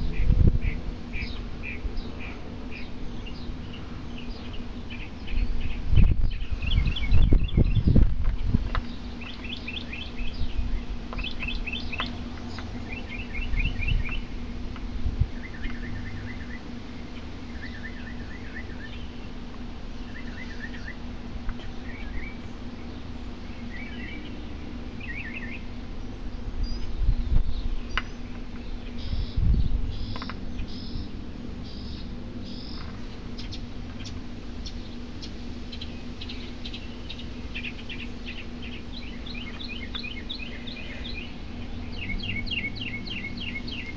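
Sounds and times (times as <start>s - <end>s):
small birds chirping: 0.0s - 43.9s
steady low hum: 0.0s - 43.9s.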